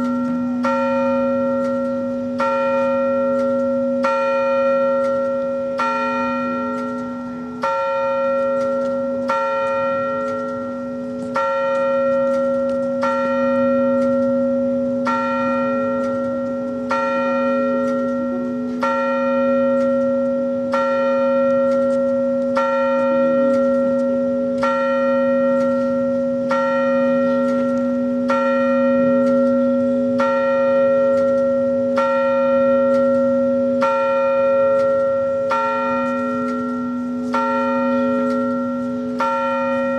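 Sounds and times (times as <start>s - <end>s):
large bell ringing: 0.0s - 39.9s.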